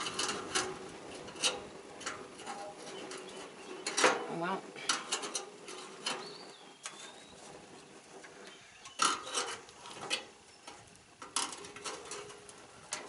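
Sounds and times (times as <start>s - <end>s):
grill metal parts clinking: 0.0s - 7.5s, 8.2s - 13.0s.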